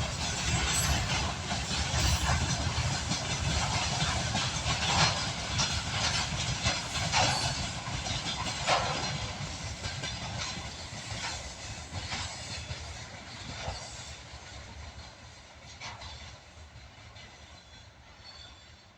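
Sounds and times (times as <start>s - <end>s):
train wagons clacking over rail joints: 0.0s - 18.6s
train rumble: 0.0s - 18.9s.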